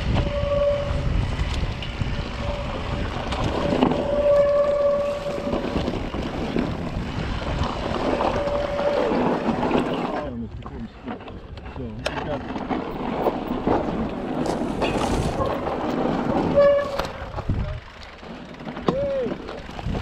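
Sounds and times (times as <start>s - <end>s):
wind and trail noise: 0.0s - 20.0s.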